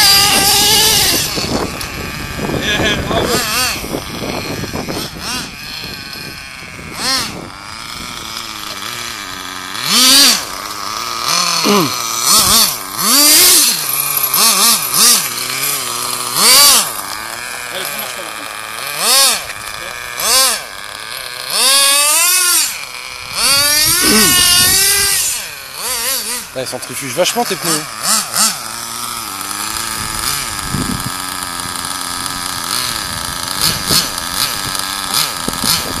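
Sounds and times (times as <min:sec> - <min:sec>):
toy car motor whining: 0:00.0 - 0:36.0.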